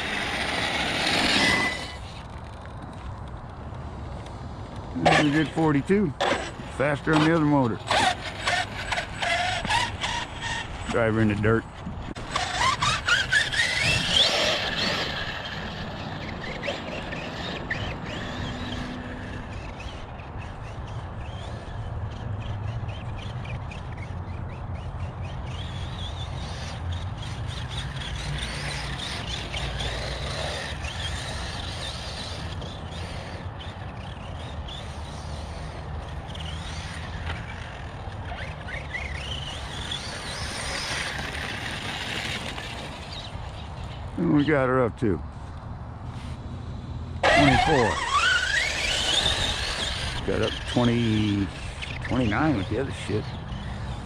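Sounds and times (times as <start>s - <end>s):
tires on dirt: 0.0s - 54.0s
electric motor whining: 4.8s - 44.2s, 45.3s - 54.0s.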